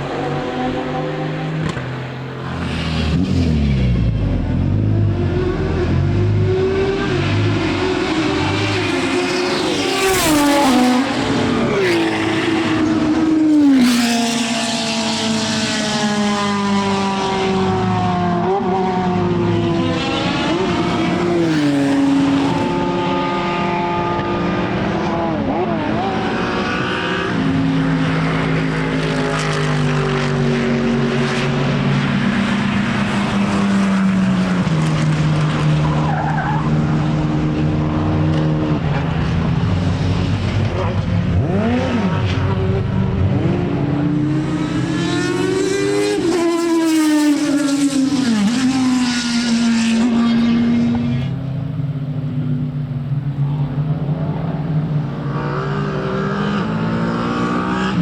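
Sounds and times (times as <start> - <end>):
racing car engine: 0.0 - 58.0.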